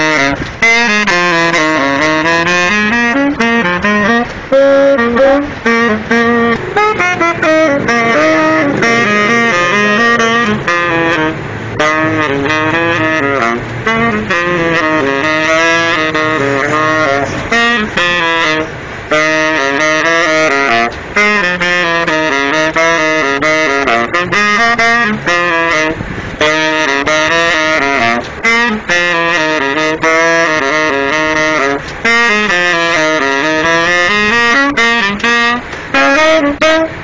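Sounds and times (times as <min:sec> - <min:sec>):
solo saxophone: 0:00.0 - 0:37.0.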